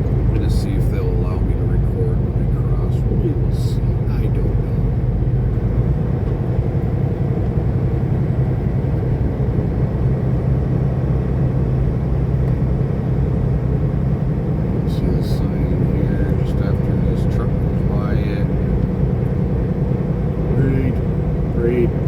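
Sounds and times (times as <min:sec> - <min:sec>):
road noise: 0:00.0 - 0:22.0
truck diesel engine drone: 0:00.0 - 0:22.0.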